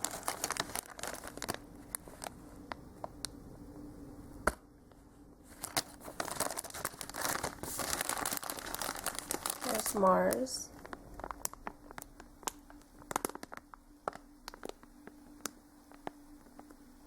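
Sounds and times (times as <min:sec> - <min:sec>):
plastic packaging crinkling: 0:00.0 - 0:03.4, 0:05.4 - 0:16.9.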